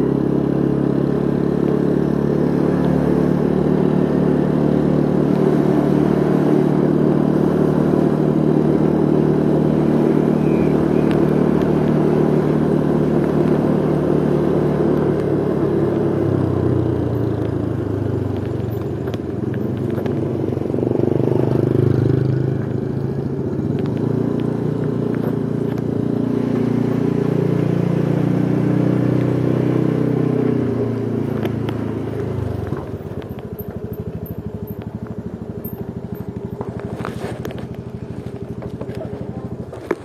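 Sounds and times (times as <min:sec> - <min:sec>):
motorcycle engine droning: 0:00.0 - 0:40.0
road and wind rumble: 0:00.0 - 0:40.0.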